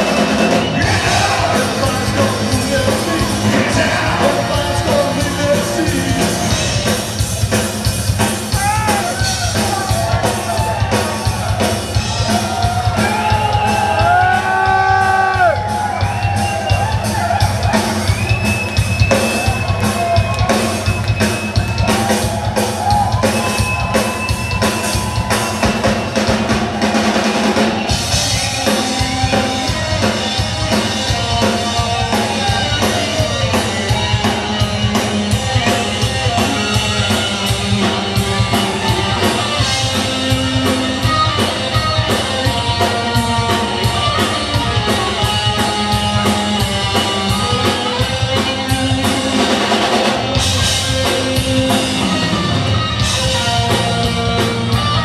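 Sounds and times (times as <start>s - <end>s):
drum kit beat: 0.0s - 55.0s
electric guitars: 0.0s - 55.0s.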